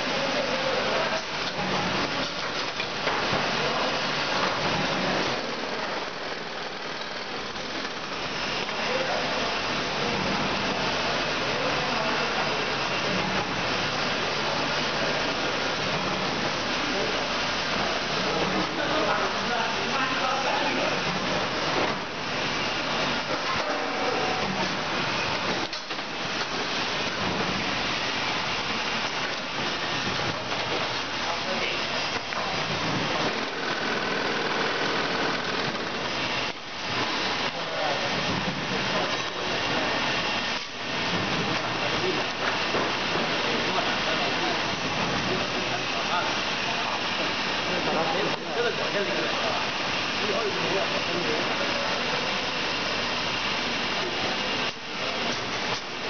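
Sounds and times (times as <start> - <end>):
packing machinery running: 0.0 - 56.0.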